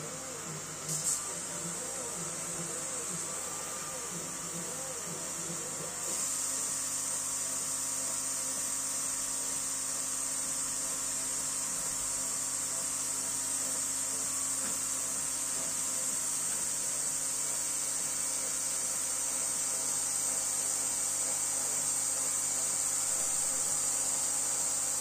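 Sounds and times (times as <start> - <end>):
laser engraver whine and hiss: 0.0 - 25.0.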